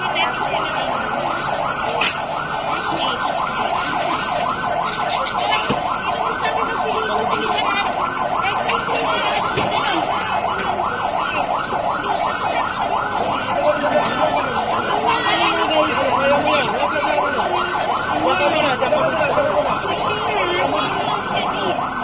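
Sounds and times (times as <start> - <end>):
electronic siren yelping: 0.0 - 22.0.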